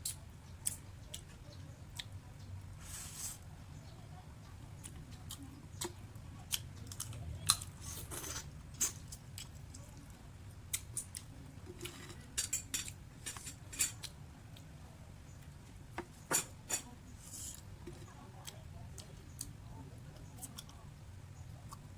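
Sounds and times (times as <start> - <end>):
clicks and cracks of eating: 0.0 - 2.7, 4.4 - 21.9
low steady hum: 0.0 - 21.9.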